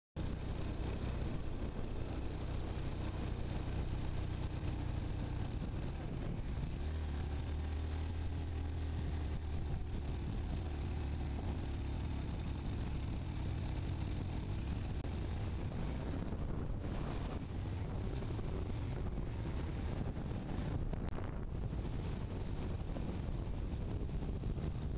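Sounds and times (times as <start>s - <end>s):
vehicle engine running: 0.2s - 24.9s
wind and road noise: 0.2s - 24.9s.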